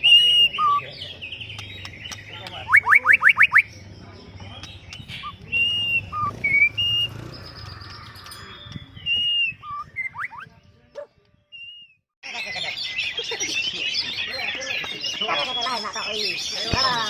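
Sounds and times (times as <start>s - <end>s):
magpie-robins singing: 0.0s - 11.8s, 12.4s - 17.0s
rapid chattering birdsong: 0.0s - 17.0s.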